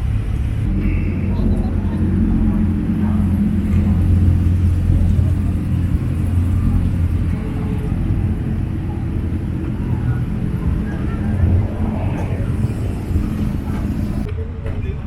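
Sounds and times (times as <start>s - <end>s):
car engine rumbling: 0.0s - 14.3s
faint voices: 0.7s - 15.0s.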